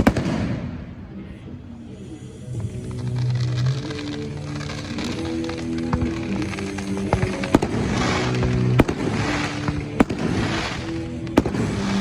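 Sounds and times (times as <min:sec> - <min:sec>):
fireworks bangs: 0:00.0 - 0:01.0, 0:02.6 - 0:12.0
music playing: 0:00.0 - 0:12.0
fireworks crackling hiss: 0:01.8 - 0:12.0.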